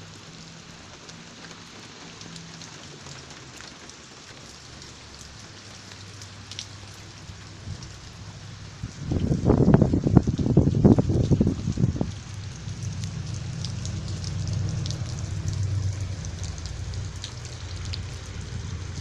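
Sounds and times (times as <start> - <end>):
rain hissing on vehicle: 0.0 - 19.0
raindrop ticks: 0.0 - 19.0.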